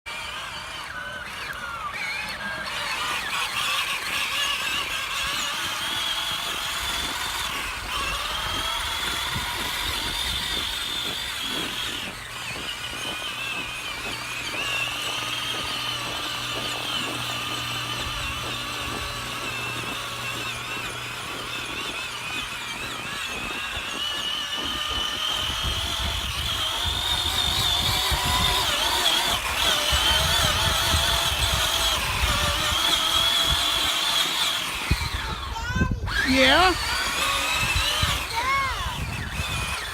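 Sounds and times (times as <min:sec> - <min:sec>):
electric motor whining: 0:00.1 - 0:39.9.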